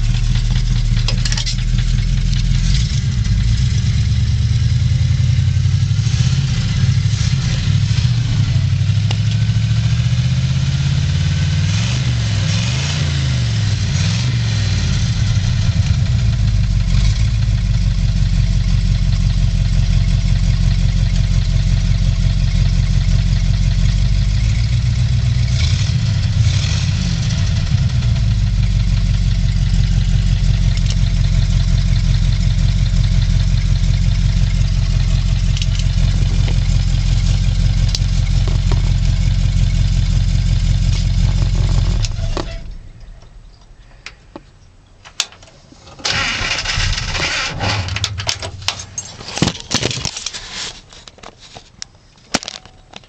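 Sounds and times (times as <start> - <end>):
car engine revving and idling: 0.0 - 43.8, 46.0 - 49.4.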